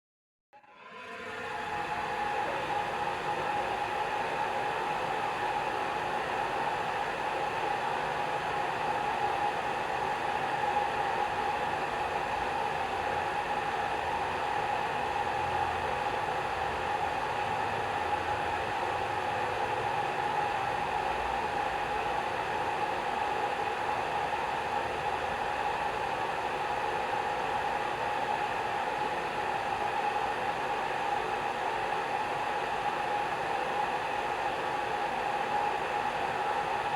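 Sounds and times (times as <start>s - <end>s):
hair dryer running: 0.7s - 36.9s.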